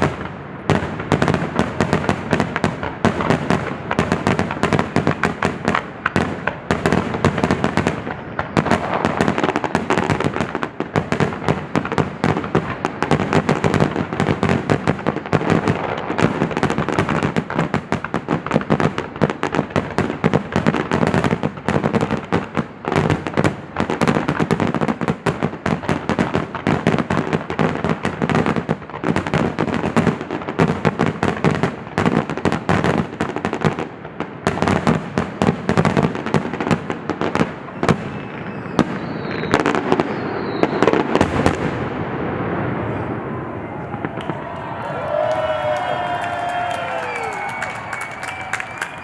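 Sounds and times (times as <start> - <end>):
fireworks bangs: 0.0 - 26.6, 34.5 - 49.0.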